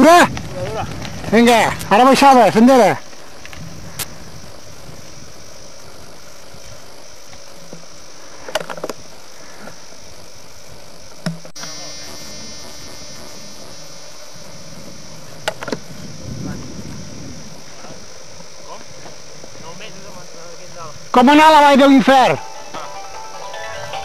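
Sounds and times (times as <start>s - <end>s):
camcorder hiss: 0.0s - 24.0s
steady buzzing tone: 0.0s - 24.0s.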